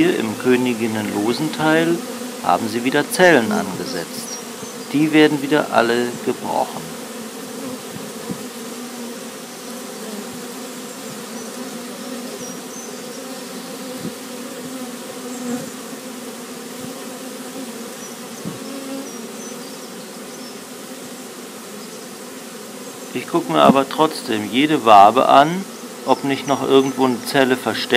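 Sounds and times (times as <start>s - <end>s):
honeybees humming: 0.0s - 27.9s.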